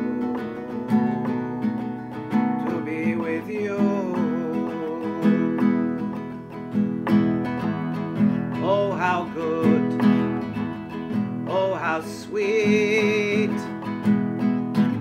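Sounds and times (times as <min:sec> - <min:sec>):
person singing: 0:00.0 - 0:14.0
acoustic guitar strumming: 0:00.0 - 0:15.0.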